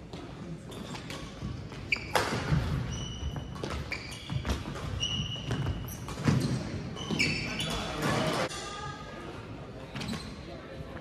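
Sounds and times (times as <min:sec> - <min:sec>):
sneakers squeaking: 0:00.0 - 0:08.5, 0:09.9 - 0:10.9.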